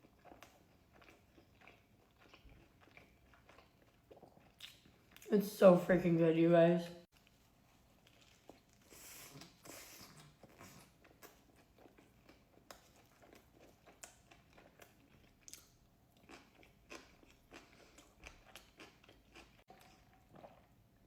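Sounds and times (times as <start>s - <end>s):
chewing and crunching food: 0.0s - 5.3s, 7.0s - 21.0s.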